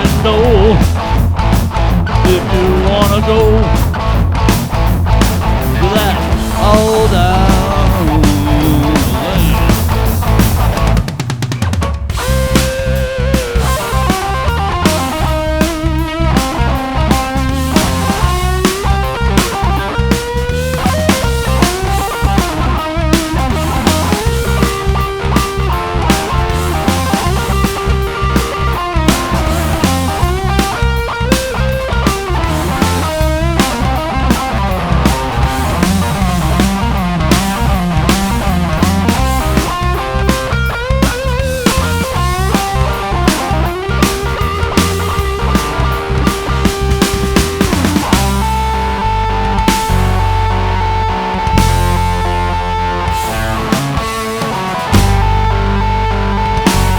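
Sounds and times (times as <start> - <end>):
lead electric guitar bent notes: 0.0 - 11.3, 12.1 - 56.9
bass guitar: 0.0 - 56.9
drum-kit fill: 0.0 - 56.9
steady drum beat: 0.0 - 56.9.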